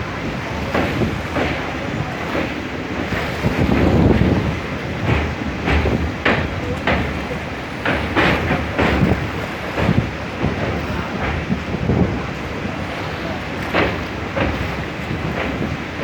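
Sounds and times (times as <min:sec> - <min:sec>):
train rumbling: 0:00.0 - 0:16.0
wheels clattering over rail joints: 0:00.0 - 0:16.0
wind on microphone: 0:00.0 - 0:16.0.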